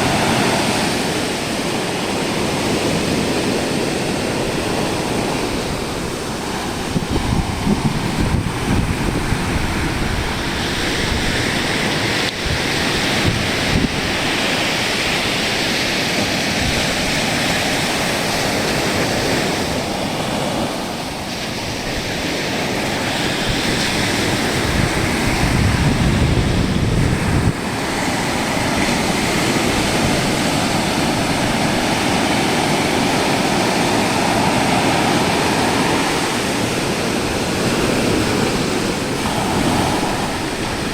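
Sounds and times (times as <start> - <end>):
ocean surf breaking: 0.0 - 40.9
wind rumble on microphone: 0.0 - 40.9.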